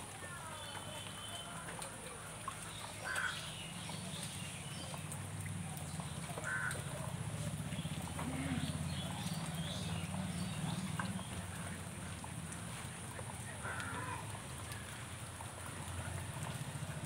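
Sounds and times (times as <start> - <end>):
ducks splashing water: 0.0 - 17.0.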